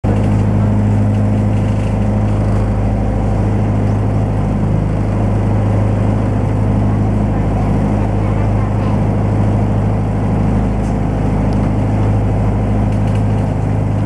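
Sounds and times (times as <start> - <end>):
boat engine drone: 0.0 - 14.0.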